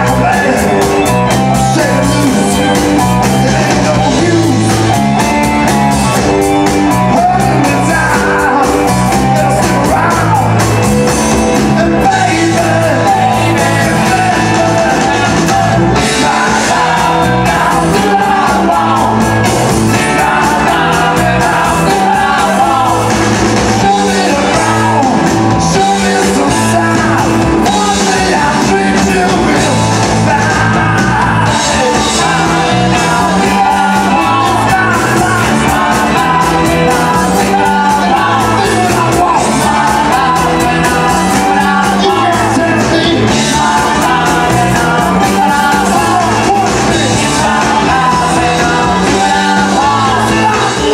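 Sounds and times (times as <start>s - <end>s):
man singing: 0.0s - 50.9s
rock band playing: 0.0s - 50.9s.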